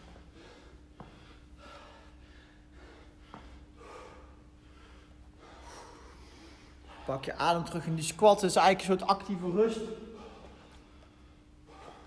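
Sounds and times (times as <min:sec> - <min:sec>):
man breathing heavily: 0:00.0 - 0:07.4, 0:09.6 - 0:12.0.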